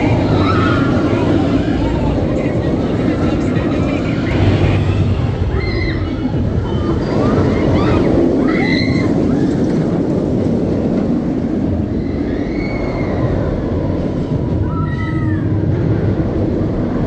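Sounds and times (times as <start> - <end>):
roller coaster train rumbling on rails: 0.0 - 17.0.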